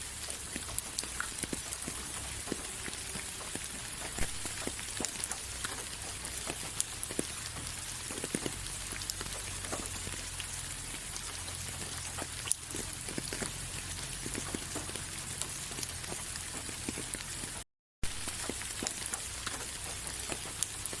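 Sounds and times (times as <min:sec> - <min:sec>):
rain hiss: 0:00.0 - 0:21.0
raindrops pattering: 0:00.0 - 0:21.0.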